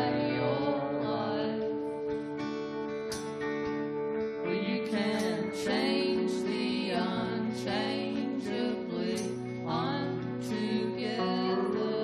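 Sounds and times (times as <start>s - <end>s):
electric guitars: 0.0s - 12.0s
keyboard: 0.0s - 12.0s.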